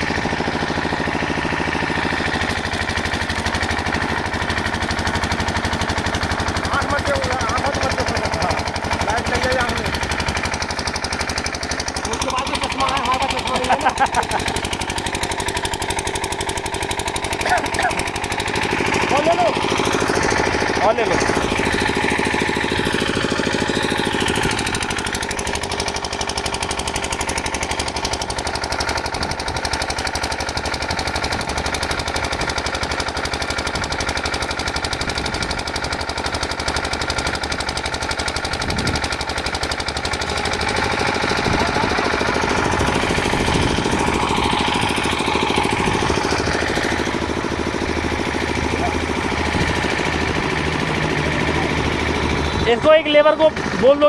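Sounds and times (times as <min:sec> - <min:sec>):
machinery rattling: 0:00.0 - 0:54.0.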